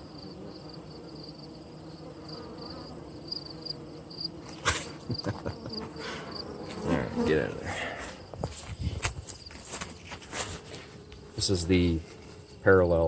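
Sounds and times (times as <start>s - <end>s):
cricket chirping: 0.0s - 13.0s
honeybees buzzing: 0.0s - 13.0s.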